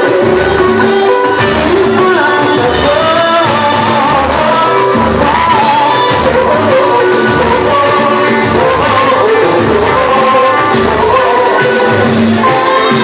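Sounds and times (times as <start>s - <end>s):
drums: 0.0s - 13.0s
live band playing: 0.0s - 13.0s
pulsing bass line: 0.0s - 13.0s.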